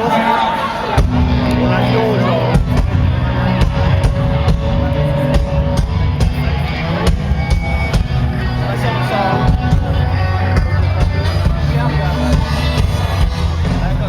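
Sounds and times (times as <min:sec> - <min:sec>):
live rock band playing: 0:00.9 - 0:14.0.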